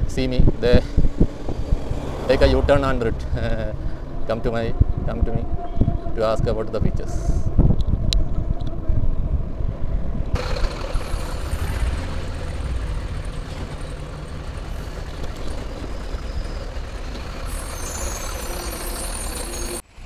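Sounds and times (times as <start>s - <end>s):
buses and trucks passing: 0.0s - 6.0s, 8.4s - 20.0s
wind rumble on microphone: 0.0s - 17.5s
road noise: 0.0s - 20.0s.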